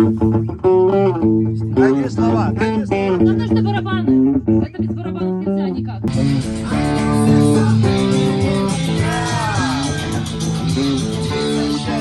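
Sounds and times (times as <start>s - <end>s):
guitar band music: 0.0s - 12.0s.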